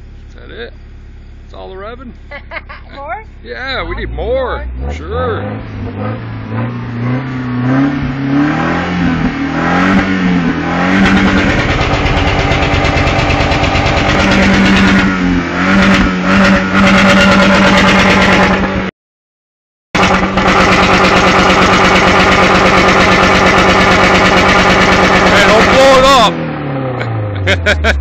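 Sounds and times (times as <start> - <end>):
truck engine revving: 1.5 - 18.9, 20.0 - 28.0.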